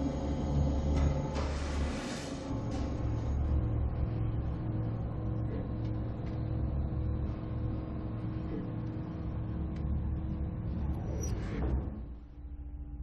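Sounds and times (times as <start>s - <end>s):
elevator rumble and hum: 0.0s - 13.0s.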